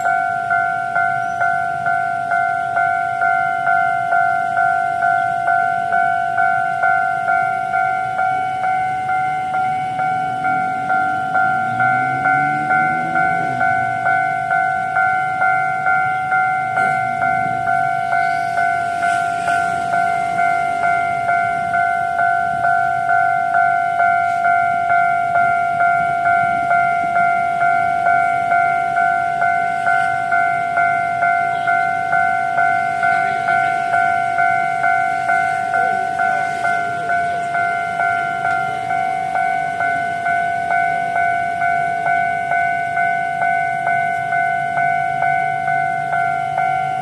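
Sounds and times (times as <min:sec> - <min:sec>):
level crossing warning bell: 0:00.0 - 0:47.0.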